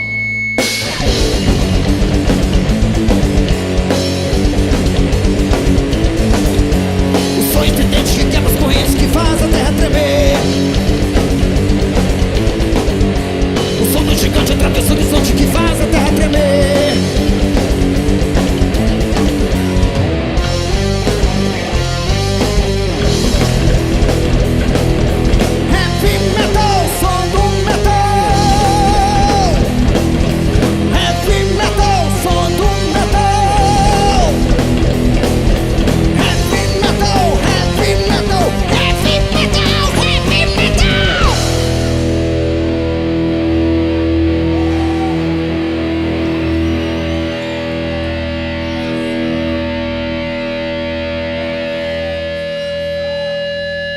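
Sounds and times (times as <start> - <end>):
distorted electric guitar chord: 0.0 - 53.9
heavy metal band playing: 0.0 - 53.9.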